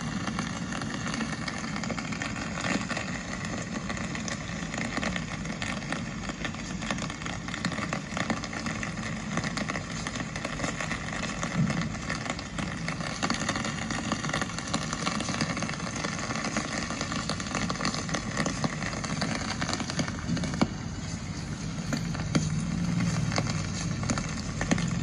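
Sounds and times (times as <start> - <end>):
rain patter: 0.0 - 25.0
street noise hum: 0.0 - 25.0.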